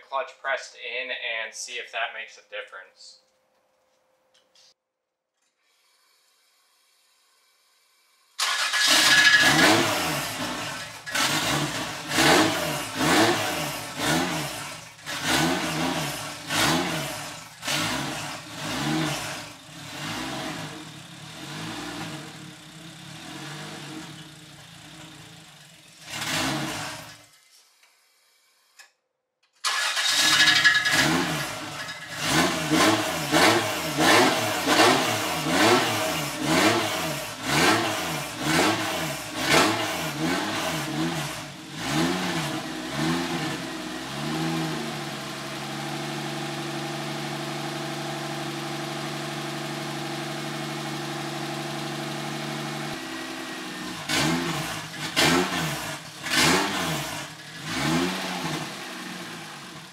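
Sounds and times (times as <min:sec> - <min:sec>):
car engine revving: 0:08.4 - 0:27.3, 0:29.7 - 0:59.9.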